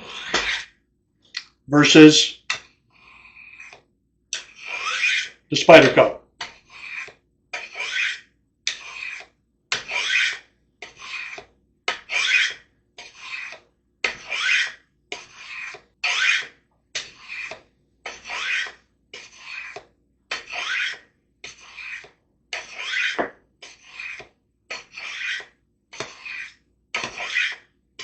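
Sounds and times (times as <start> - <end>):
knife scraping on ceramic rods: 0.0 - 0.8, 2.4 - 27.8.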